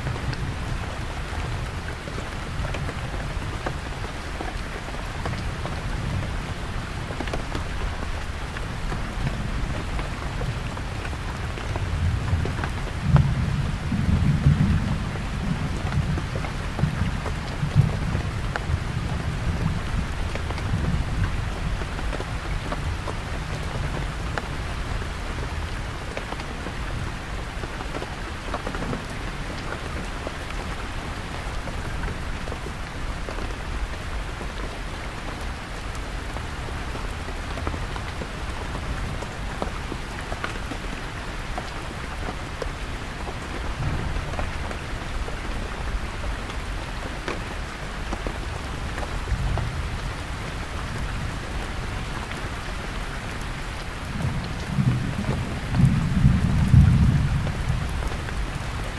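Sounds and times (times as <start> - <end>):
heavy rain on a canvas tent: 0.0 - 58.9.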